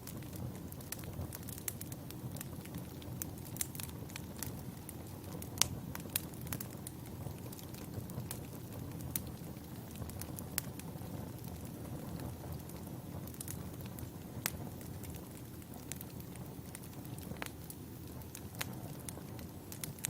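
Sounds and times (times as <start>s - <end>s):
campfire flames rumbling: 0.0s - 20.0s
wood crackling and popping: 0.0s - 20.0s.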